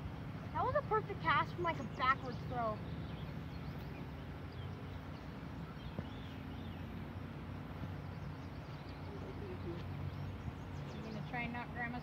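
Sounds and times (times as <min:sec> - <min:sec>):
bird chirps: 0:00.0 - 0:12.0
low motor hum: 0:00.0 - 0:12.0.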